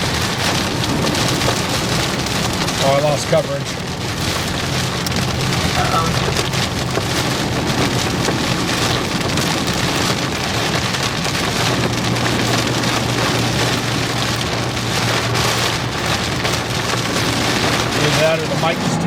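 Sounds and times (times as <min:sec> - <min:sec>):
heavy rain on a vehicle: 0:00.0 - 0:19.0
road and vehicle hum: 0:00.0 - 0:19.0.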